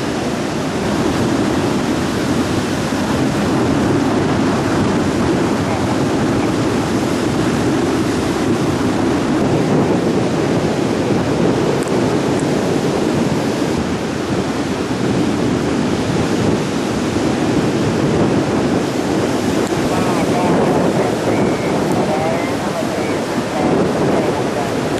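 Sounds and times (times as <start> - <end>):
surf on a beach: 0.0 - 24.9
wind buffeting microphone: 0.0 - 24.9.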